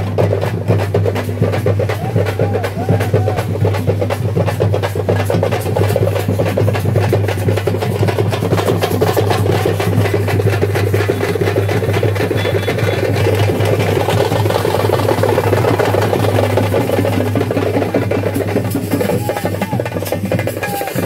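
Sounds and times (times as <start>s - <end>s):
fast dense drumming: 0.0s - 21.0s.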